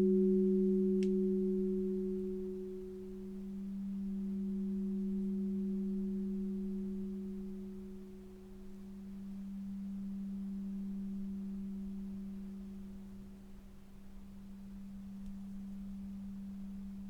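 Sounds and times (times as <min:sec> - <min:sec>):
low pure tone drone: 0:00.0 - 0:17.0.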